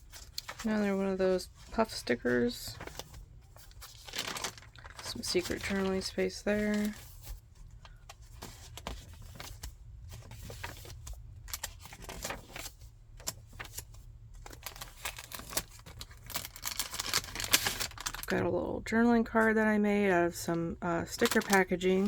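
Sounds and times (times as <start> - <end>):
paper pages rustling: 0.0 - 18.4, 21.1 - 22.0.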